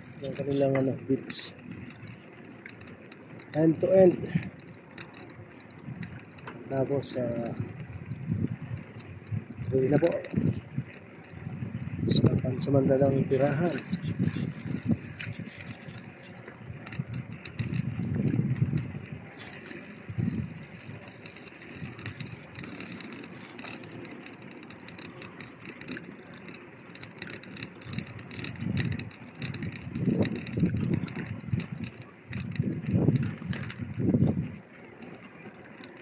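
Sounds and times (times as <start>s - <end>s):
bicycle tyre noise: 0.0s - 36.0s
bike clicks and rattles: 0.0s - 36.0s.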